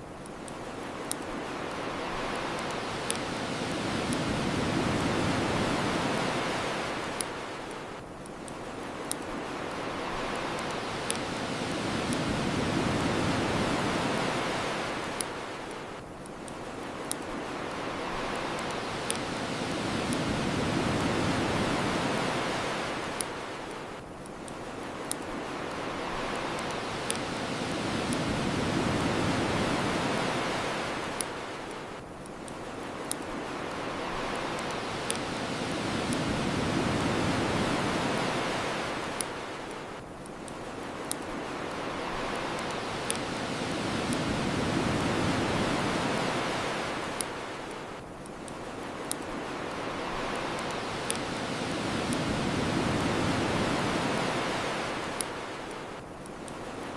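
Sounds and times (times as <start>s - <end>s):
ocean waves washing ashore: 0.0s - 56.9s
wood fire crackling: 0.0s - 56.9s.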